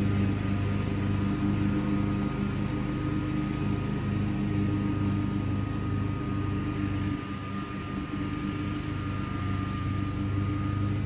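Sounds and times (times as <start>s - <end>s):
mower engine droning: 0.0s - 11.0s.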